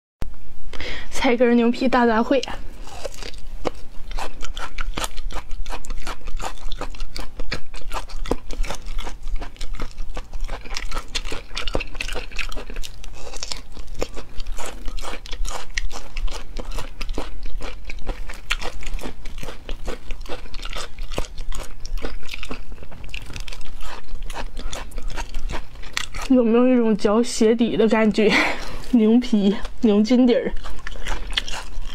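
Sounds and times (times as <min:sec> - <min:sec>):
crunchy chewing: 0:02.4 - 0:31.9.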